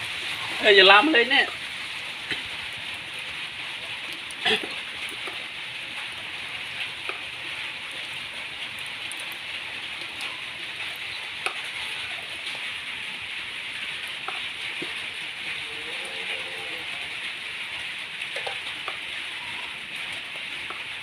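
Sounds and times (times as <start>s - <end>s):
light rain on wet ground: 0.0s - 21.0s.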